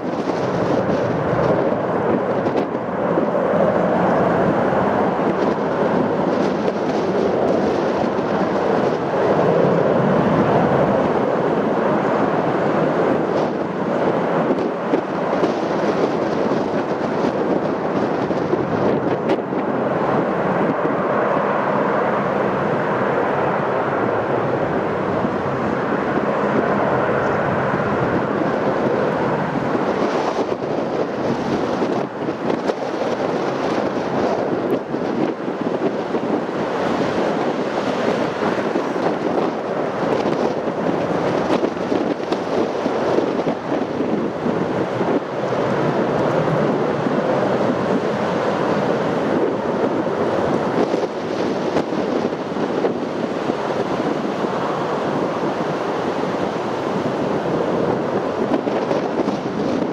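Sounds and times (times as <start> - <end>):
jet engine rushing: 0.0 - 59.9
wind: 0.0 - 59.9.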